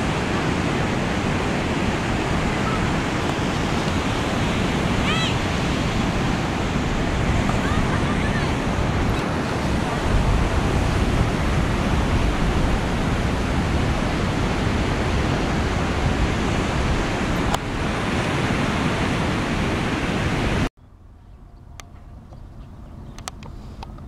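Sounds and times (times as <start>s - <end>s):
ocean surf: 0.0s - 20.7s
wind buffeting microphone: 0.0s - 24.0s.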